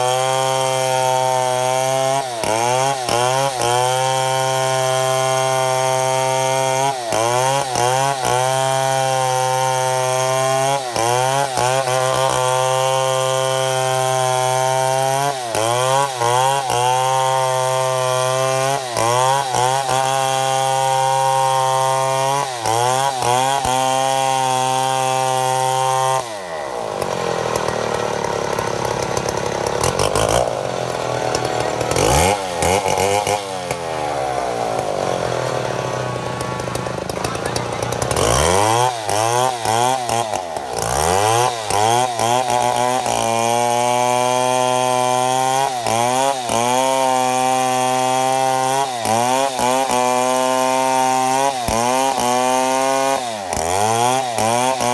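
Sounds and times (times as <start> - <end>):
chainsaw cutting through log: 0.0 - 54.9.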